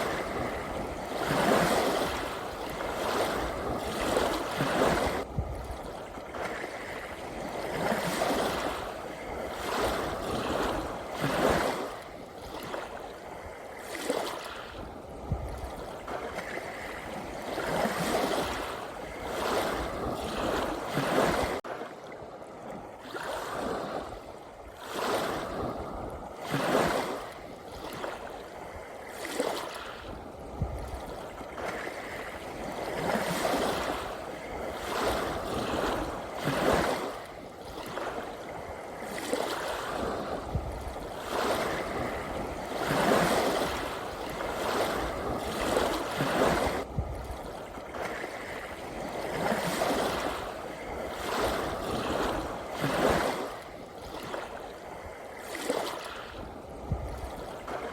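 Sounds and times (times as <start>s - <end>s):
ocean waves washing: 0.0s - 57.9s.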